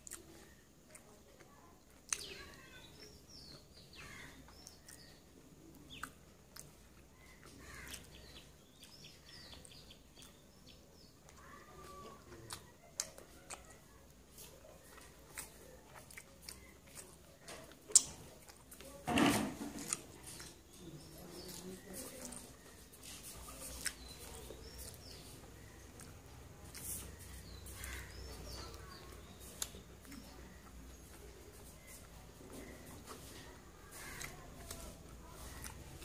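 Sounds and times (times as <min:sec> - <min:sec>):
chewing and lip smacks: 0:00.0 - 0:03.7, 0:04.5 - 0:19.0, 0:19.8 - 0:36.0.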